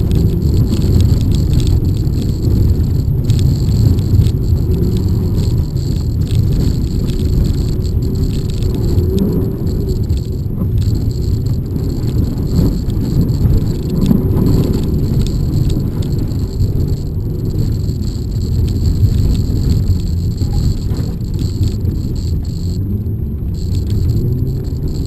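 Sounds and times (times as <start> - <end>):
car engine running hard: 0.0 - 25.0
tyres rumbling on snow: 0.0 - 25.0.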